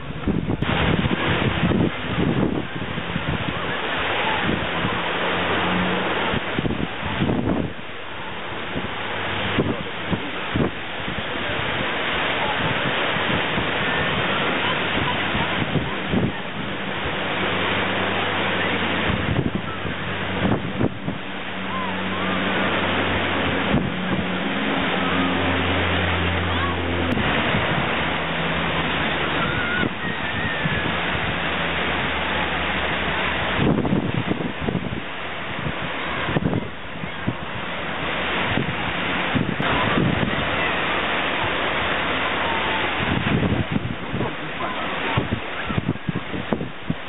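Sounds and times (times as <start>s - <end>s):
aircraft engines droning overhead: 0.0s - 47.0s
wind noise on microphone: 0.0s - 47.0s.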